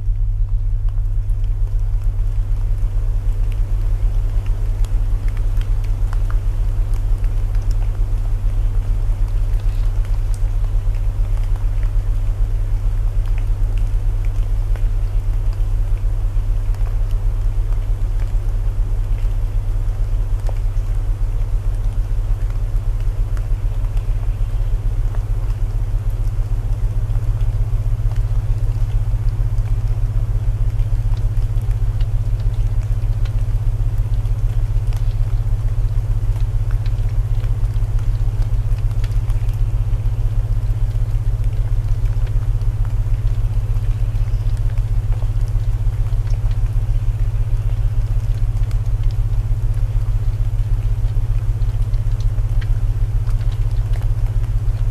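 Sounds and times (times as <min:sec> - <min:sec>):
rain hiss: 0:00.0 - 0:54.9
wood crackling in fire: 0:00.0 - 0:54.9.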